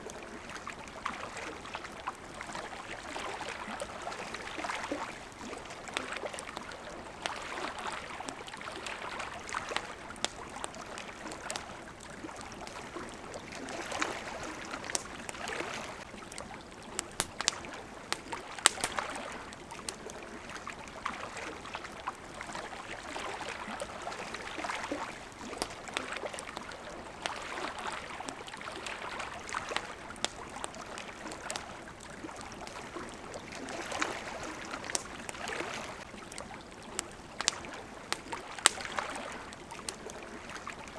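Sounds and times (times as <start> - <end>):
campfire popping and crackling: 0.0 - 40.9
water lapping: 0.0 - 40.9.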